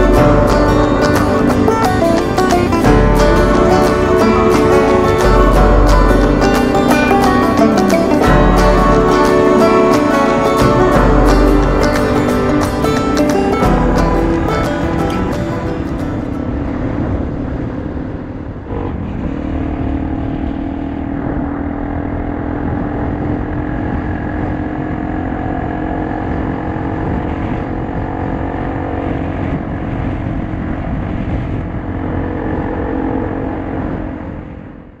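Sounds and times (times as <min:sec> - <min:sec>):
motorcycle engine running: 0:00.0 - 0:34.4.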